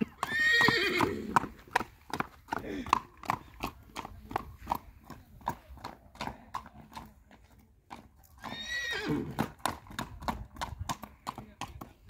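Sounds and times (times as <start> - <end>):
horse hooves on paved road: 0.0 - 12.0.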